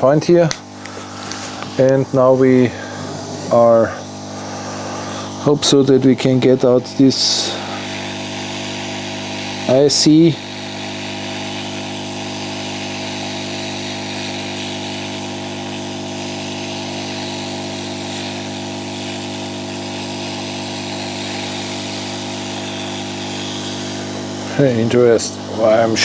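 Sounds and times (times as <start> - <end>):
hot-air gun blowing: 0.0 - 26.0.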